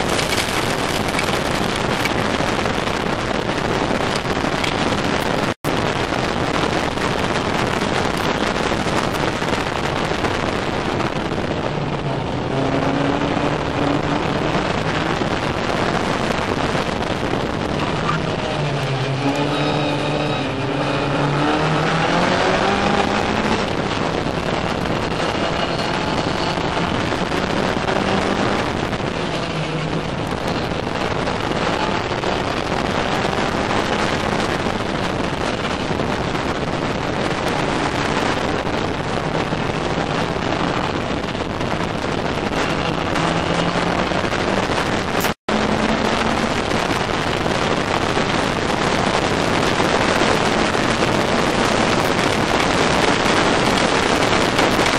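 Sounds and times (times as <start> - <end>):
race car engine revving: 0.0 - 54.9
wind buffeting microphone: 0.0 - 54.9.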